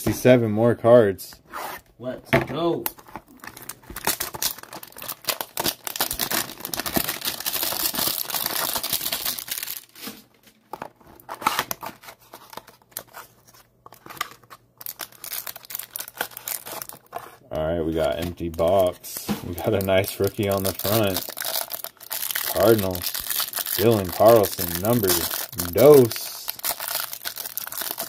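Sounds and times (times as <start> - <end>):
plastic wrap crinkling: 2.9 - 28.0.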